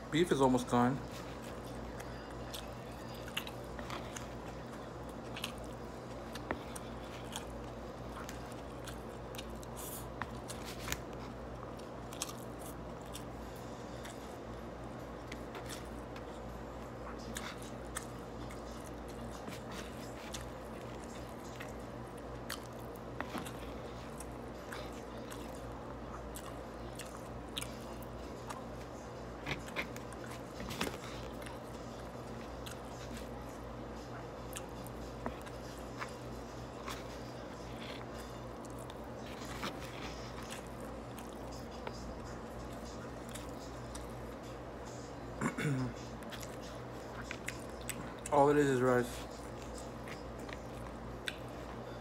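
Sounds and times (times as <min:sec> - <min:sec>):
steady low hum: 0:00.0 - 0:52.0
person chewing: 0:01.0 - 0:48.3, 0:49.2 - 0:52.0.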